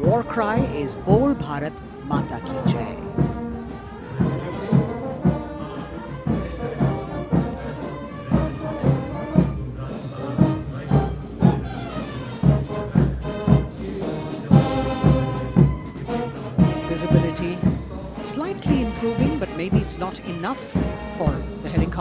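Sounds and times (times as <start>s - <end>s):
brass band playing a march: 0.0s - 22.0s
drum beating steadily: 0.0s - 22.0s.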